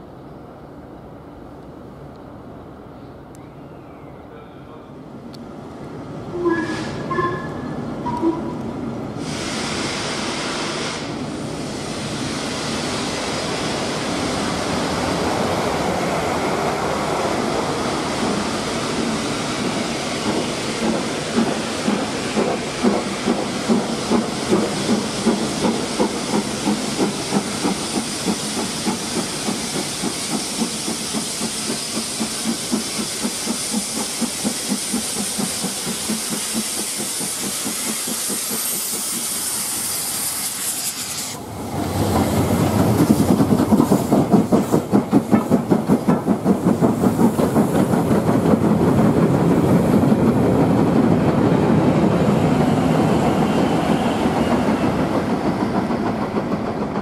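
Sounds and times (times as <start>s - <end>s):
steam locomotive exhaust chuffs: 6.4s - 15.1s, 17.6s - 57.0s
steam hissing: 9.1s - 57.0s.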